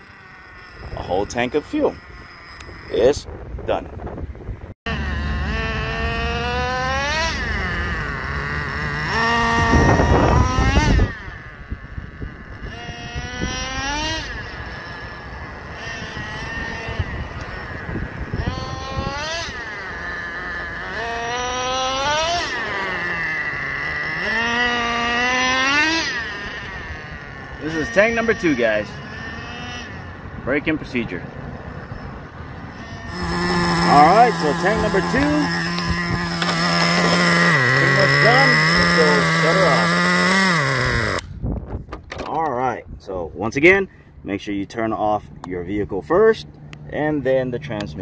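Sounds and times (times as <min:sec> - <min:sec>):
nitro engine revving: 0:00.0 - 0:41.4.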